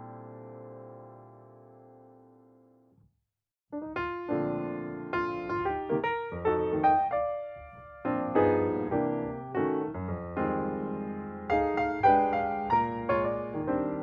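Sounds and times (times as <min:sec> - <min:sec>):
gentle piano melody: 0:00.0 - 0:02.8, 0:03.8 - 0:14.0.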